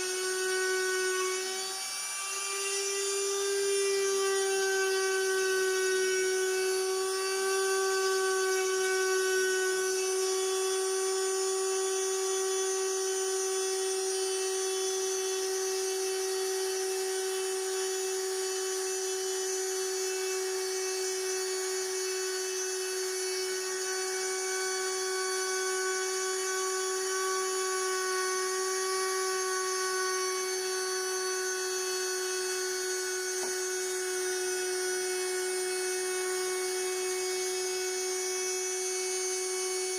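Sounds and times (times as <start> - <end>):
bit cutting into wood: 0.0 - 39.9.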